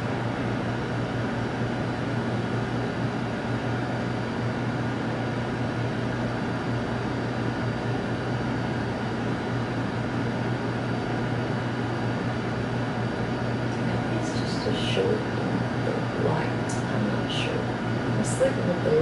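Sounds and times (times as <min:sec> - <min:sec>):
faint steady whine: 0:00.0 - 0:19.0
low ventilation hum: 0:00.0 - 0:19.0.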